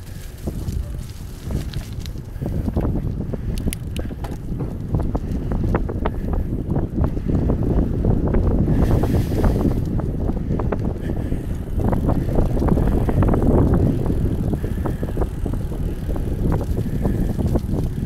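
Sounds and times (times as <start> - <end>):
bicycle clicks and rattles: 0.0 - 18.0
low road rumble: 0.0 - 18.0
wind buffeting microphone: 0.0 - 18.0.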